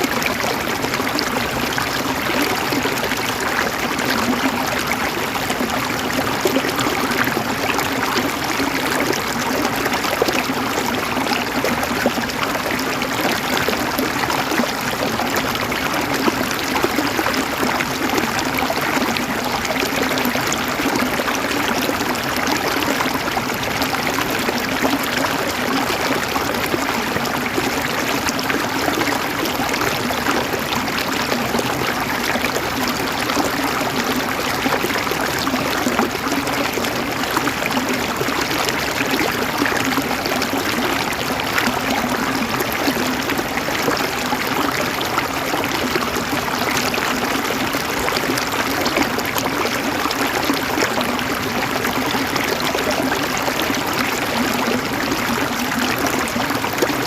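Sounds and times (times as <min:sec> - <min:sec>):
river water flowing over rocks: 0:00.0 - 0:57.0.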